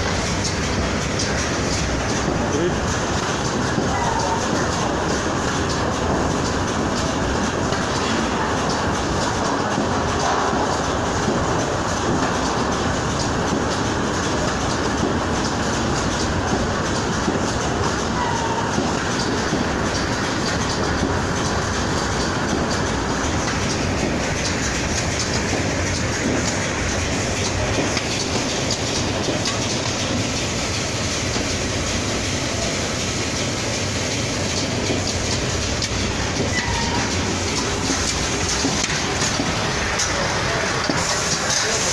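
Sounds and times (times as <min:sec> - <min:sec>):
packing machine clattering and ticking: 0:00.0 - 0:41.9.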